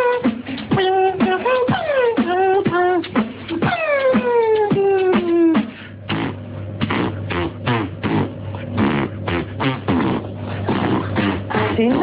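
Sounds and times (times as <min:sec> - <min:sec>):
beatbox mouth sounds: 0:00.0 - 0:12.0.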